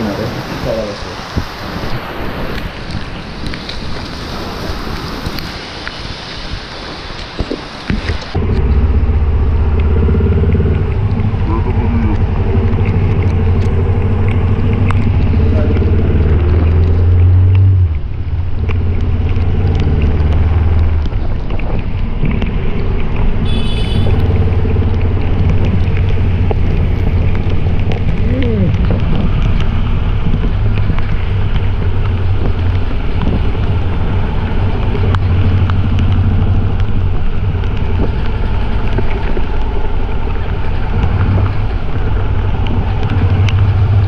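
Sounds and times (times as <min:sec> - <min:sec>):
wind noise on microphone: 0:00.0 - 0:44.0.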